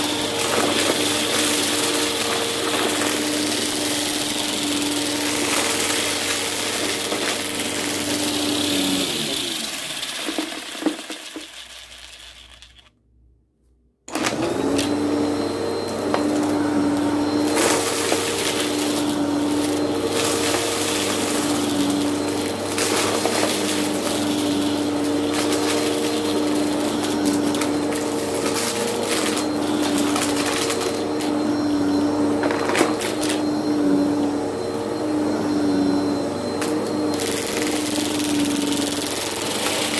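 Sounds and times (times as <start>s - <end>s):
upright vacuum running on carpet: 0.0s - 12.7s, 14.1s - 39.9s.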